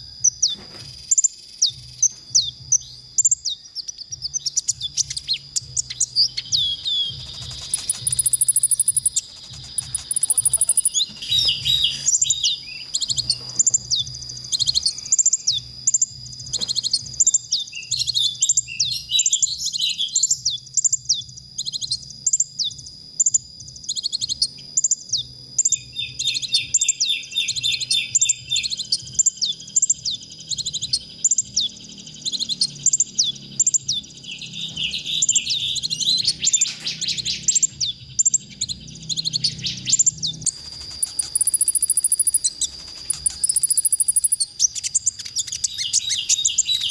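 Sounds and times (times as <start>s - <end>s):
bird twittering song: 0.0s - 46.9s
buzzy bird trill: 0.0s - 46.9s.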